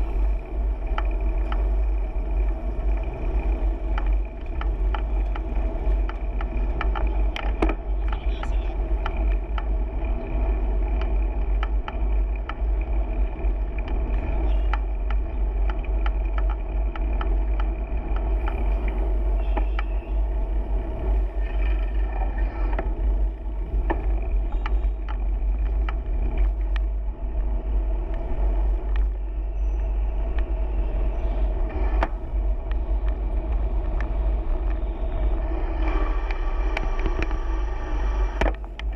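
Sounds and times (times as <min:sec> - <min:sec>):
road and traffic noise: 0:00.0 - 0:38.9
small clicks and rattles: 0:00.0 - 0:38.9
wind on microphone: 0:00.0 - 0:38.9.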